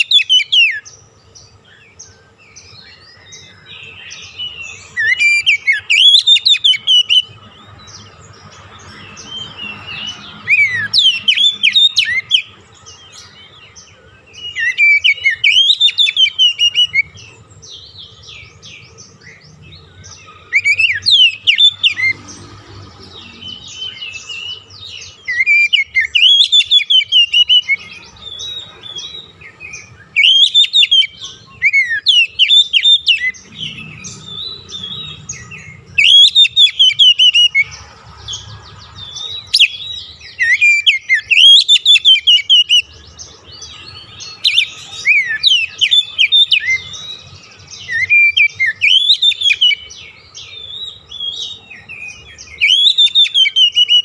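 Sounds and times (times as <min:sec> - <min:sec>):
bird whistling song: 0:00.0 - 0:54.0.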